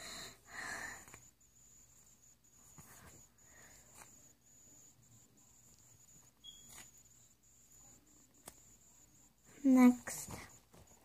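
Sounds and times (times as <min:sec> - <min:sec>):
thin high steady whine: 0:00.0 - 0:11.0.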